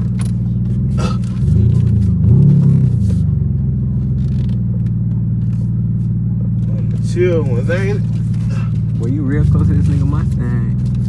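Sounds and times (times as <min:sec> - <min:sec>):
car exhaust drone: 0:00.0 - 0:11.0.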